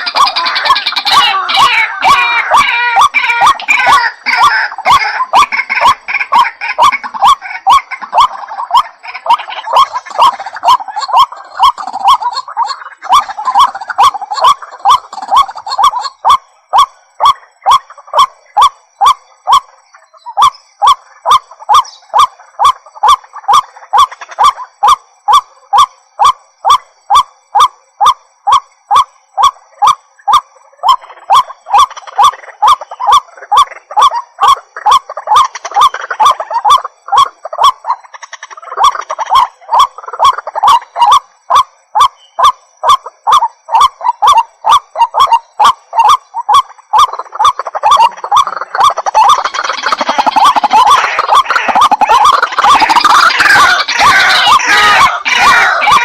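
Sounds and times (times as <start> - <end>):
waterhen harsh croaking calls: 0.0 - 56.0.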